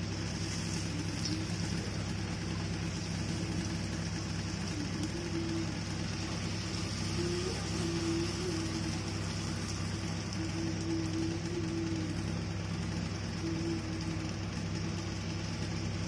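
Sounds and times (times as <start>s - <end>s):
oil sizzling in a wok: 0.0s - 16.0s
steady low hum: 0.0s - 16.0s.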